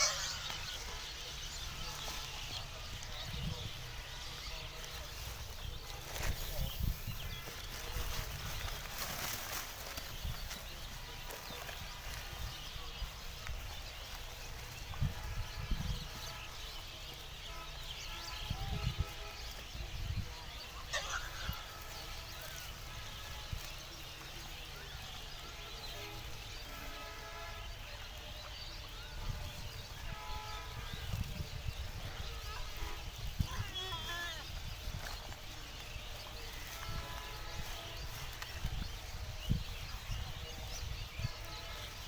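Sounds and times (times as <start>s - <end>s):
farm animals calling: 0.0s - 42.0s.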